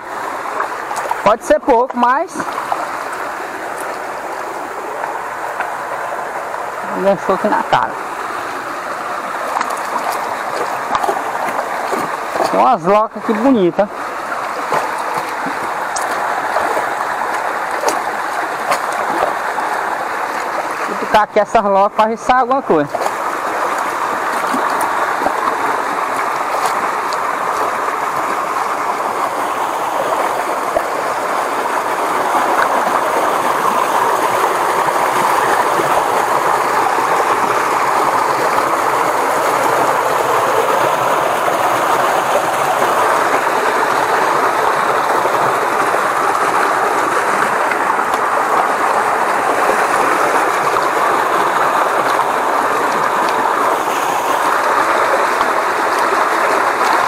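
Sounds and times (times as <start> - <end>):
creek rushing over rapids: 0.0 - 57.0.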